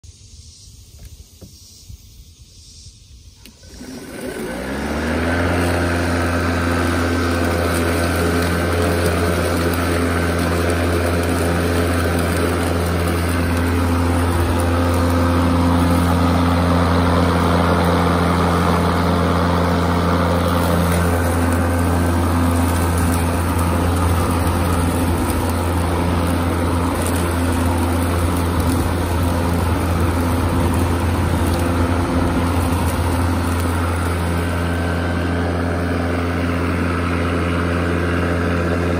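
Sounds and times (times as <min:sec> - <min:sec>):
electric lawn mower humming: 0:00.1 - 0:38.9.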